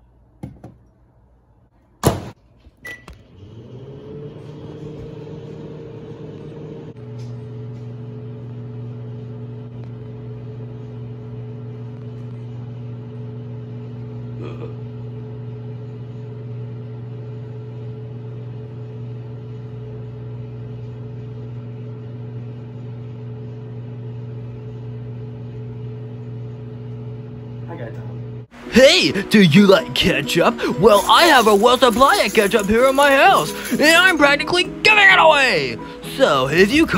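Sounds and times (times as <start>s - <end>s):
microwave oven humming: 2.0s - 36.9s.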